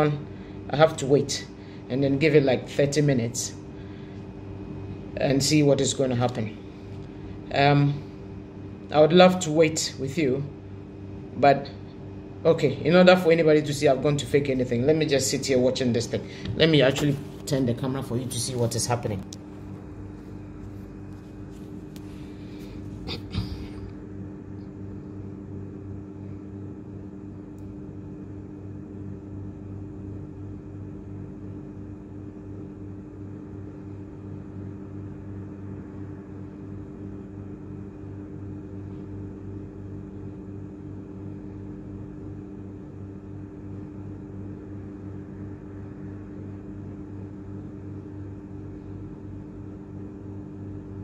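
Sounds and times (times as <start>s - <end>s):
low machine hum: 0.0s - 51.0s.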